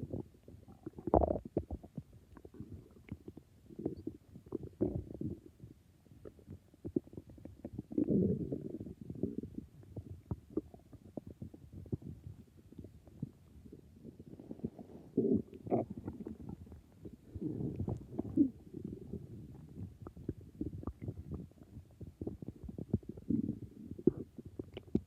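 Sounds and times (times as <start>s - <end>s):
stomach growling: 0.0s - 25.0s.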